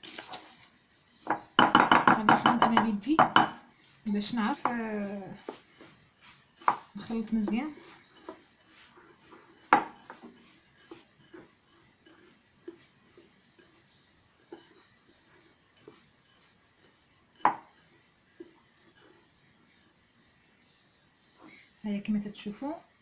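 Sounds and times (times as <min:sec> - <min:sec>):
mixing by hand in a bowl: 0:00.0 - 0:21.8.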